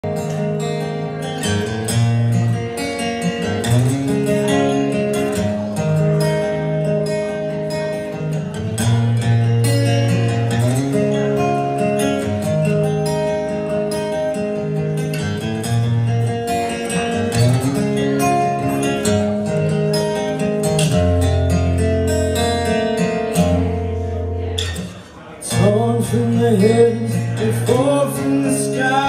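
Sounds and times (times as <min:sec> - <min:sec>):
acoustic guitar strummed: 0:00.0 - 0:29.0.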